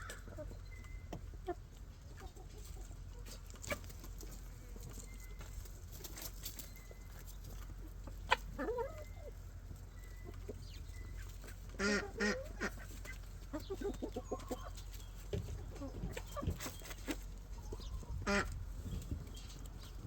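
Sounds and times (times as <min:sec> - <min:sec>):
birds calling: 0:00.0 - 0:02.5, 0:03.2 - 0:20.0.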